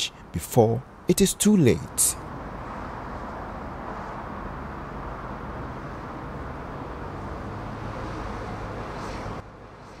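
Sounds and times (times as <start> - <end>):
highway traffic rumble: 0.0 - 10.0.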